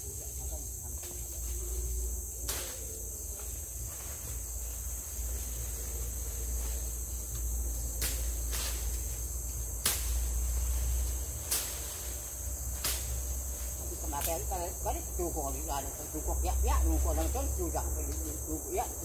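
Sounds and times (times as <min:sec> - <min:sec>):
forest insects droning: 0:00.0 - 0:19.0.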